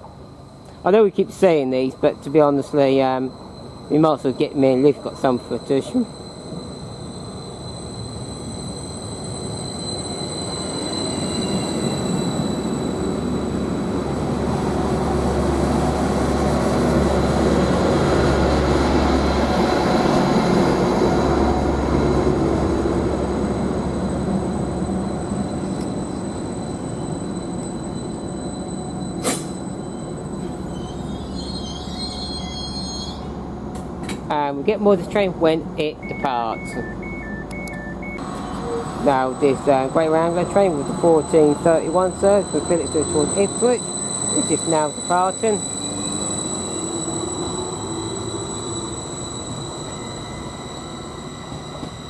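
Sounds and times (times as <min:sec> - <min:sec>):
train engine rumble: 0:00.0 - 0:52.0.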